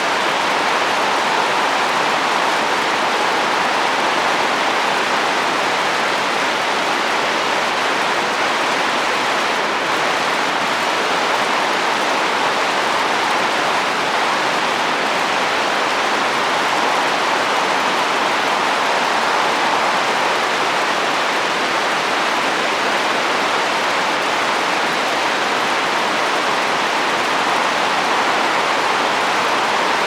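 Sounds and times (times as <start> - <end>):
rain falling on a roof: 0.0 - 30.0.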